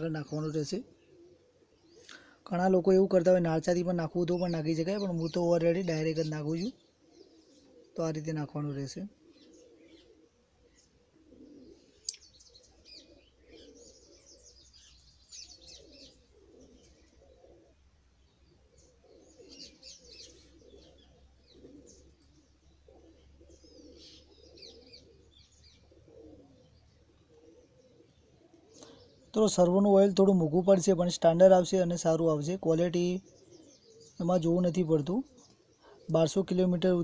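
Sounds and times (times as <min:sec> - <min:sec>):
faint pigeons cooing: 0:00.0 - 0:37.0
small birds chirping: 0:00.0 - 0:37.0.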